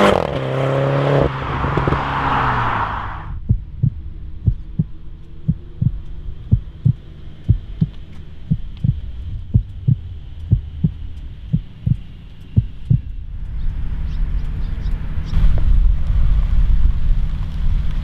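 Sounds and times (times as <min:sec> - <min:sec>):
car exhaust idling drone: 0:00.0 - 0:18.0
deep exhaust thumps: 0:03.2 - 0:18.0.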